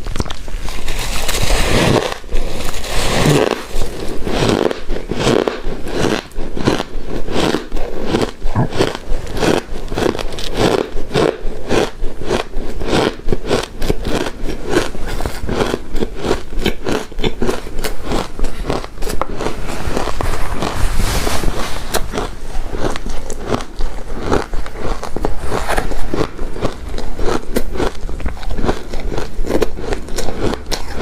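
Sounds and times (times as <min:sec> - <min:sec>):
crunching and chewing shaved ice: 0:00.0 - 0:31.0.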